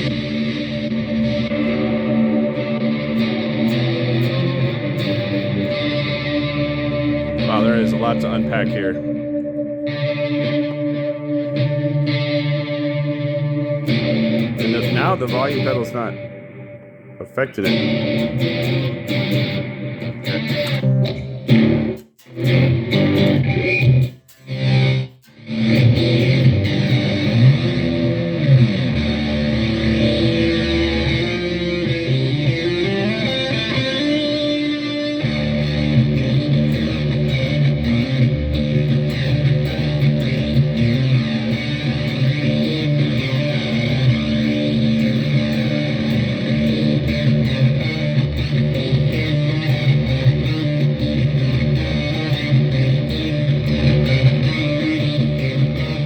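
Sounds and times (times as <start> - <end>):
electric guitar through effects: 0.0 - 56.0.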